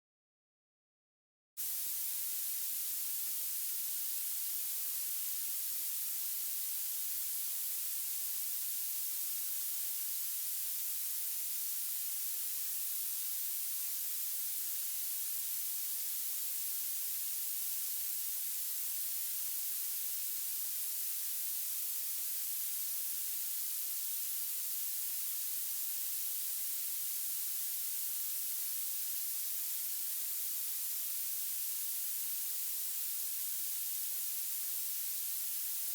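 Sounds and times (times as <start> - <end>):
sharp high-pitched hiss: 1.6 - 35.9.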